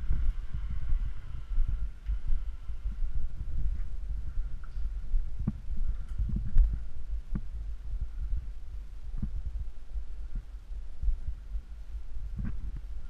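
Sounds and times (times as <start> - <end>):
steady rumble: 0.0 - 13.0.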